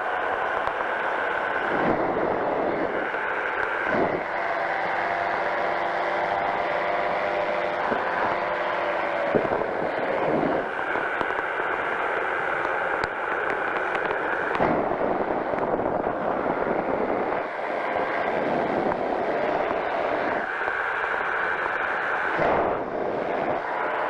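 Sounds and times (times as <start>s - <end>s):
engine and propeller running: 0.0s - 24.0s
wind rush on microphone: 0.0s - 24.0s.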